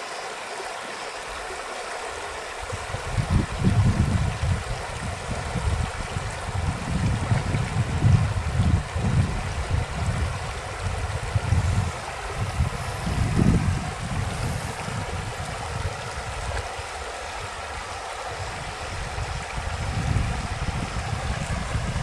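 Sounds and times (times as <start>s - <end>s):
creek water running: 0.0s - 22.0s
wind rumbling on microphone: 2.5s - 22.0s.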